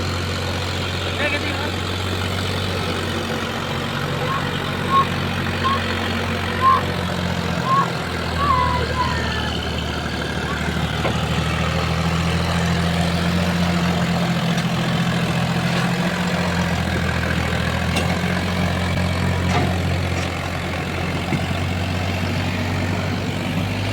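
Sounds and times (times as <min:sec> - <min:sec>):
heavy diesel engine running: 0:00.0 - 0:23.9.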